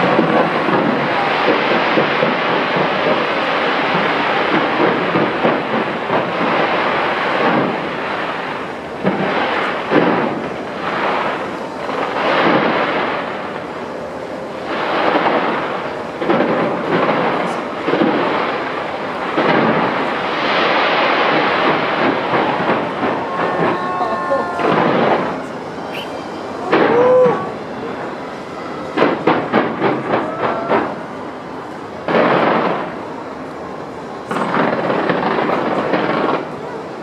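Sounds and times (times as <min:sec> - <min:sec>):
fireworks booming and banging: 0:00.0 - 0:37.0.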